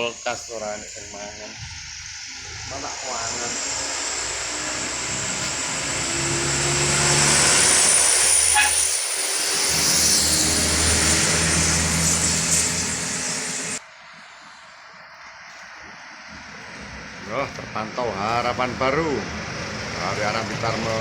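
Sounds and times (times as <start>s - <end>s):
high-pitched squeal: 0.0s - 21.0s
heavy vehicle engine hum: 1.7s - 13.8s, 15.3s - 21.0s.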